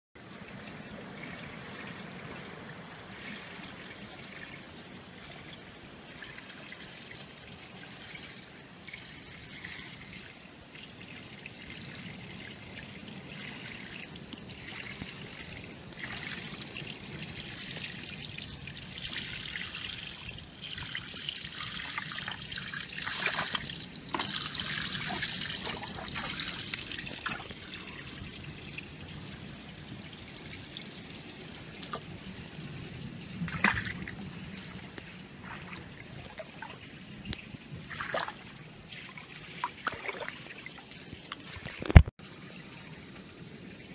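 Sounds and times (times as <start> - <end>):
water trickling among rocks: 0.4 - 42.1.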